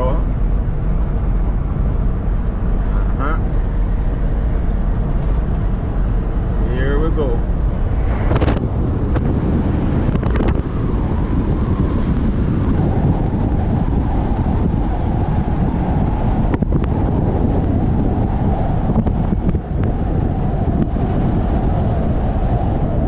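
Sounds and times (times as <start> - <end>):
car engine and road noise: 0.0 - 23.0
wind buffeting microphone: 0.0 - 23.0.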